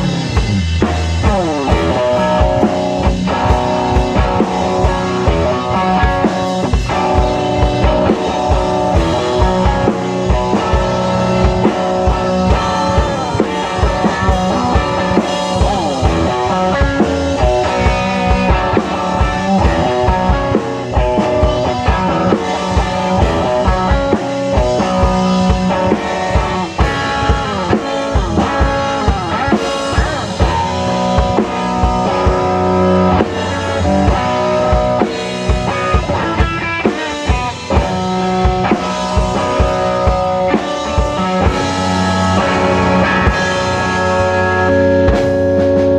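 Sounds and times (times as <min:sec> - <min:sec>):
drum kit steady beat: 0:00.0 - 0:45.9
guitar with bending notes: 0:00.0 - 0:45.9.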